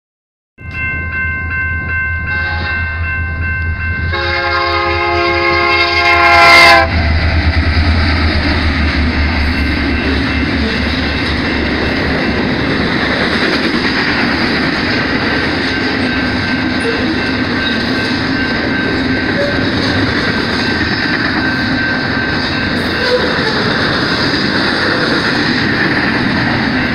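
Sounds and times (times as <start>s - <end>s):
steel wheels rumbling on rails: 0.7s - 26.9s.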